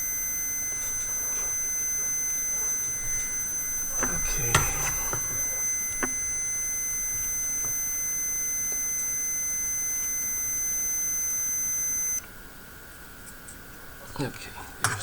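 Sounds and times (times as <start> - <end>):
high-pitched electronic beep tone: 0.0 - 12.2.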